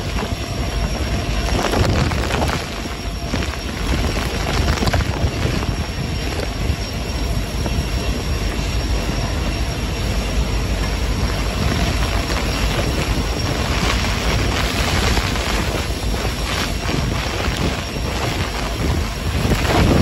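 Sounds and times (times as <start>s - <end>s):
heavy rain: 0.0s - 6.8s, 10.2s - 20.0s
strong gusting wind: 0.0s - 20.0s.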